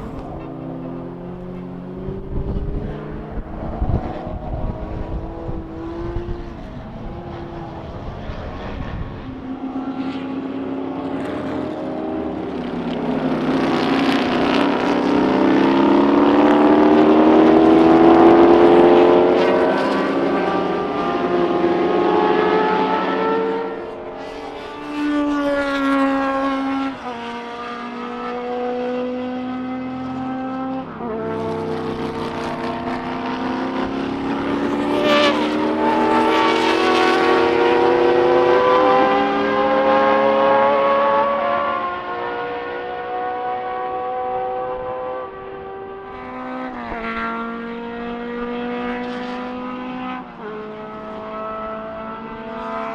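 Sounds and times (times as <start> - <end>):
racing car engines passing: 0.0 - 52.9.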